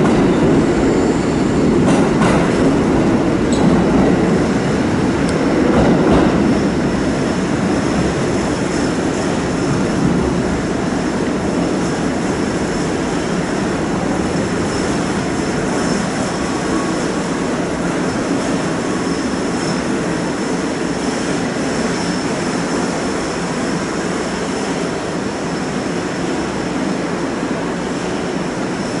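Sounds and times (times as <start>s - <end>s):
electric train rumble: 0.0s - 29.0s.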